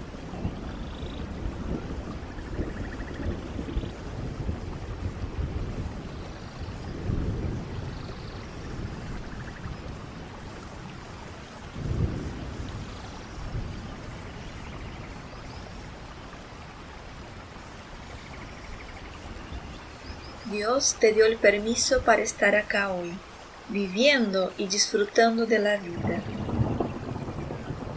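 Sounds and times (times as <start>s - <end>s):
rushing water: 0.0s - 27.9s.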